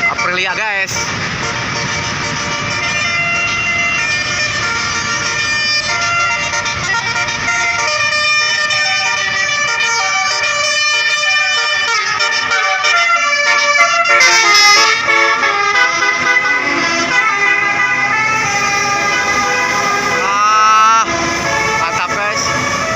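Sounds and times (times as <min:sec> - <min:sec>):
musical air horns playing a tune: 0:00.0 - 0:22.9
road traffic: 0:00.0 - 0:22.9.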